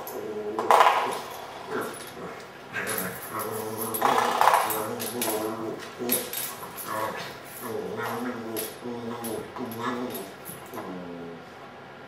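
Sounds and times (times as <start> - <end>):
puppy growling and whining: 0.0 - 11.4.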